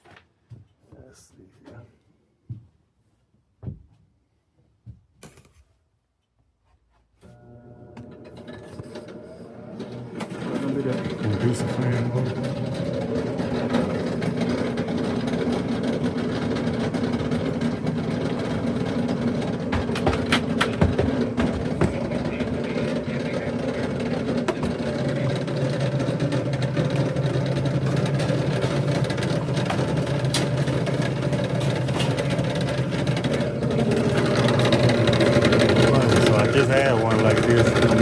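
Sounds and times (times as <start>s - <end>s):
fan motor humming: 7.3s - 38.0s.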